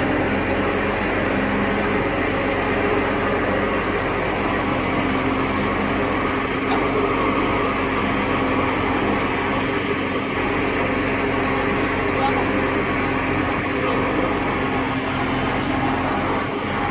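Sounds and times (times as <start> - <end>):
machine engine droning: 0.0 - 16.9.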